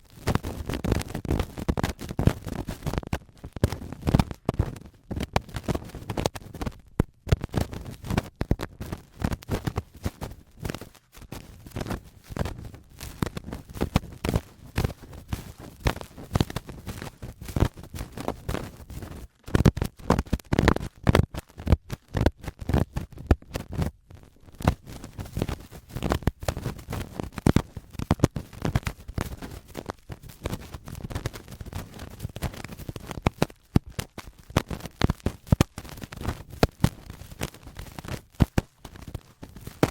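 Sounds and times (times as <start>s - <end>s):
cotton swab scraping microphone: 0.0s - 39.9s.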